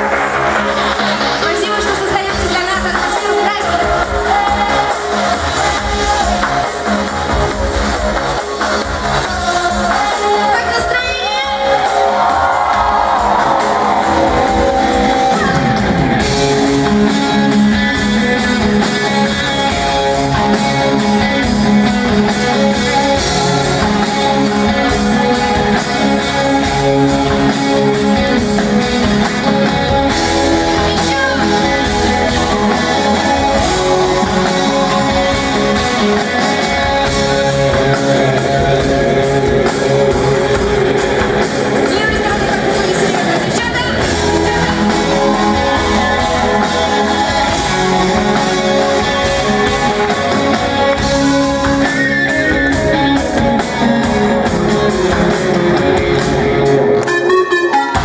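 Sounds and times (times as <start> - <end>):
drum kit steady beat: 0.0 - 58.0
guitar: 0.0 - 58.0
keyboard: 0.0 - 58.0
live band playing pop-rock: 0.0 - 58.0.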